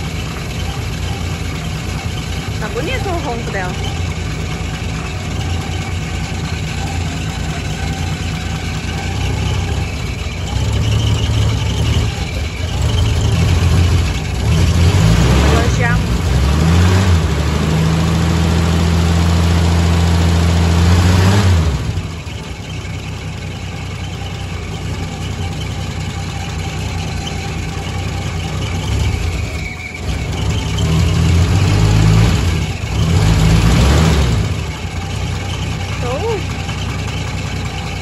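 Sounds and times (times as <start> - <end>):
car engine revving and idling: 0.0 - 38.0.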